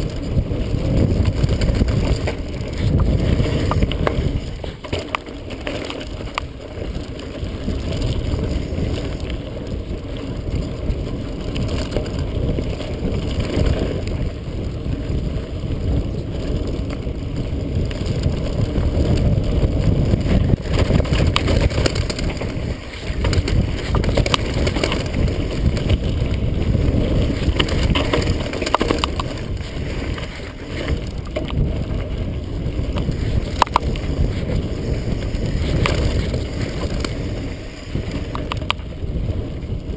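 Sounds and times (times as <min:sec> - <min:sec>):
bike clicks and rattles: 0:00.0 - 0:39.9
wind and tyre rumble: 0:00.0 - 0:39.9.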